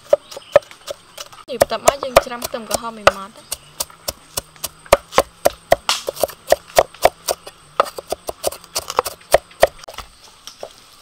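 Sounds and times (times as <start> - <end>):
cleaver chopping on wooden board: 0.0 - 10.0.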